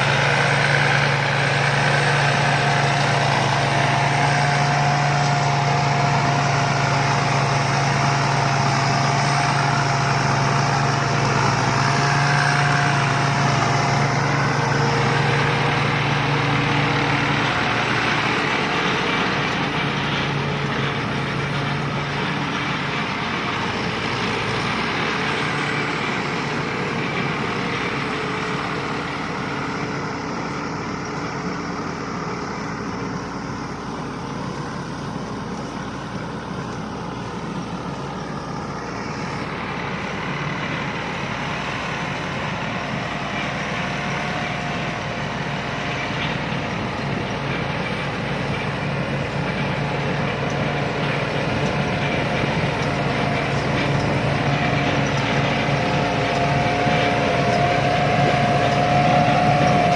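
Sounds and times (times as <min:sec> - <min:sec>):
combine harvester running: 0:00.0 - 0:59.9
steady whine: 0:00.0 - 0:59.9.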